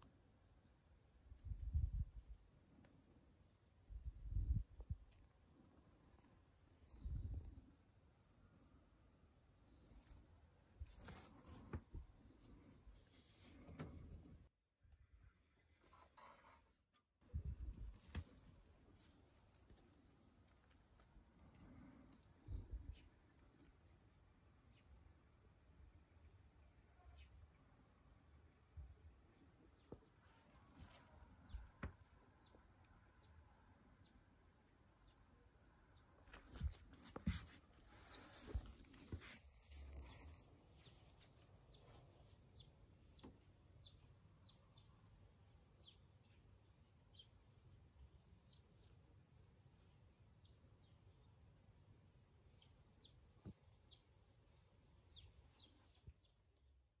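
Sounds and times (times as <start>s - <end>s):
small birds chirping: 4.2s - 8.9s, 9.6s - 14.2s, 17.5s - 27.8s, 29.2s - 56.6s.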